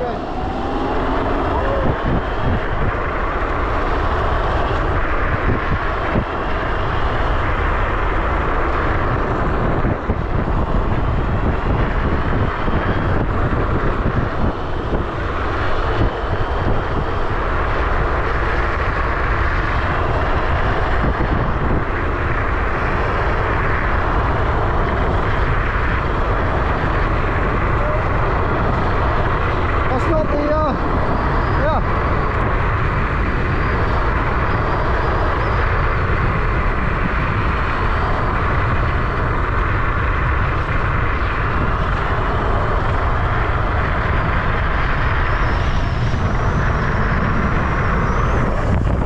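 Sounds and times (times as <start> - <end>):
electric motor whine: 0.0 - 49.0
road noise: 0.0 - 49.0
wind buffeting microphone: 0.0 - 49.0.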